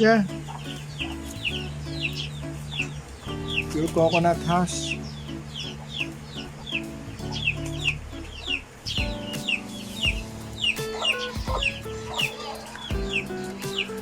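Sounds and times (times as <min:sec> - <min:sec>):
high falling chirps: 0:00.0 - 0:14.0
slow background music: 0:00.0 - 0:14.0.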